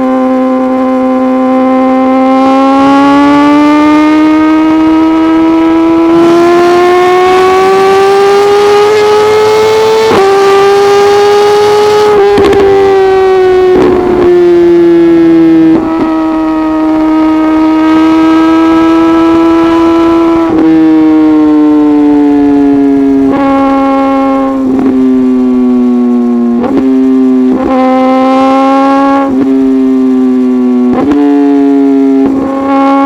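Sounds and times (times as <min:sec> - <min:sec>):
motorcycle engine at high revs: 0:00.0 - 0:33.0
exhaust cracks: 0:02.1 - 0:33.0.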